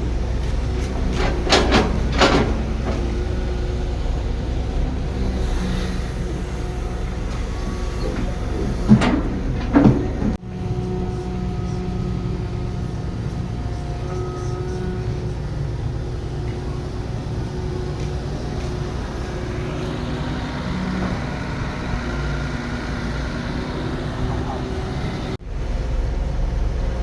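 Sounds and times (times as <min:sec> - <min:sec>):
diesel engine running under load: 0:00.0 - 0:27.0.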